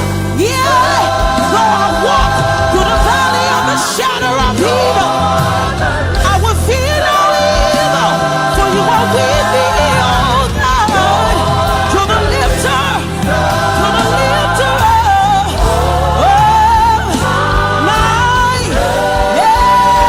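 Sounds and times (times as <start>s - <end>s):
band with steady bass line: 0.0s - 20.0s
gospel choir singing: 0.0s - 20.0s.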